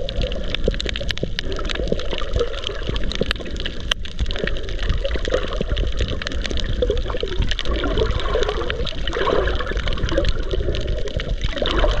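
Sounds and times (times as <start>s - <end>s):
low rumble: 0.0s - 12.0s
small sharp clicks and crackles: 0.0s - 12.0s
underwater water sloshing: 0.0s - 12.0s.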